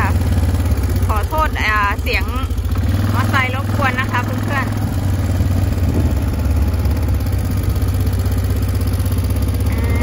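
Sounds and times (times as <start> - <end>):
motorcycle engine idling low: 0.0 - 10.0.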